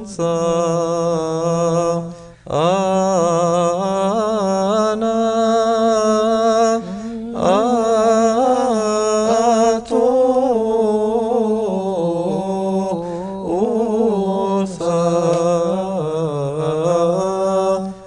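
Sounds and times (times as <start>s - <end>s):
man chanting a hymn: 0.0s - 18.0s.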